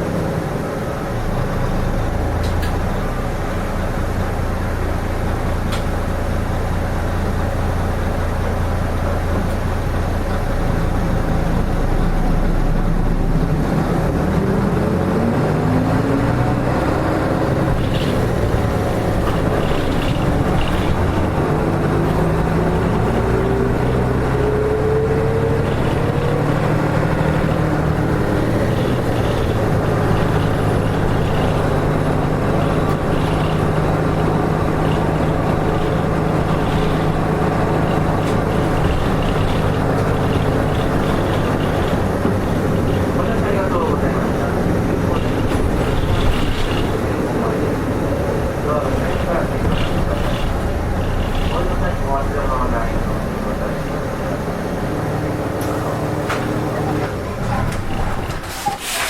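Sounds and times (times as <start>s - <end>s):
rising engine whine: 0.0s - 58.8s
bus diesel engine humming: 0.0s - 59.0s.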